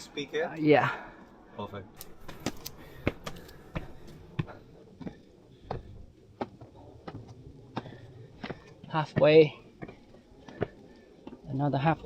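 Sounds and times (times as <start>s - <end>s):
footsteps on stone steps: 2.0s - 12.0s.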